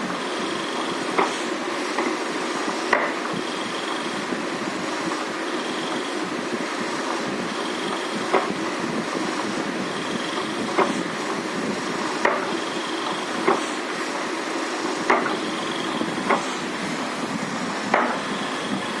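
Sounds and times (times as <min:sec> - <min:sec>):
geared motor whirring: 0:00.0 - 0:19.0.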